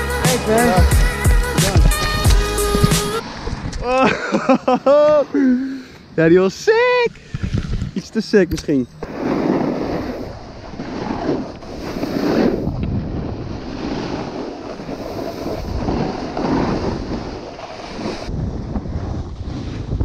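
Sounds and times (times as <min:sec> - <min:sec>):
snowboard scraping over snow: 0:00.2 - 0:05.4, 0:09.0 - 0:20.0
wind buffeting microphone: 0:00.5 - 0:04.5, 0:07.0 - 0:20.0.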